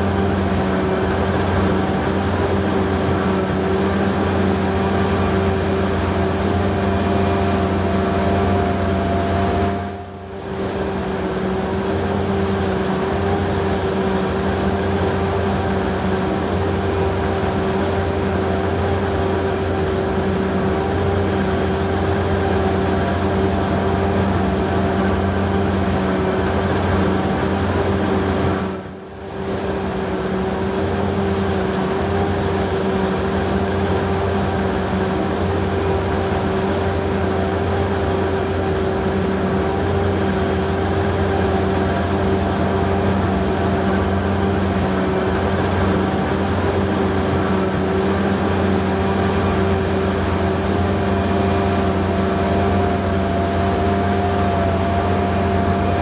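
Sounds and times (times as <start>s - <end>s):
heavy farm machinery droning: 0.0s - 56.0s
steady machine whine: 0.0s - 56.0s.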